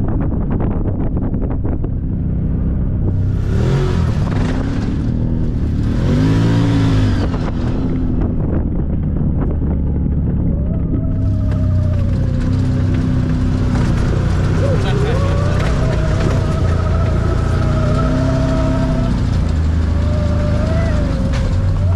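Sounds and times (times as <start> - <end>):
engine revving and running: 0.0 - 21.9.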